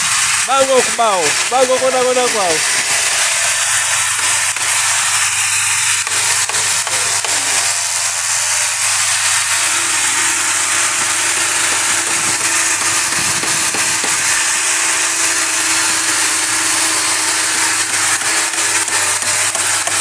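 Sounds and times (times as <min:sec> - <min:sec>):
woodworking power tool running: 0:00.0 - 0:20.0.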